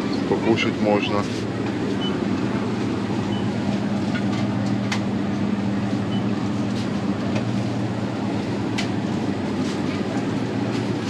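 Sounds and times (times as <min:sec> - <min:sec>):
refrigerator electric hum: 0:00.0 - 0:11.0.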